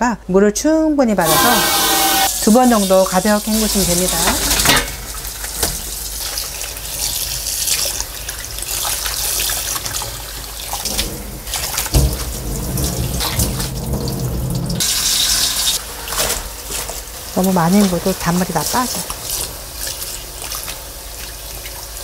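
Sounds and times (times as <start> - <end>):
cabbage rinsed by hand: 1.2 - 22.0.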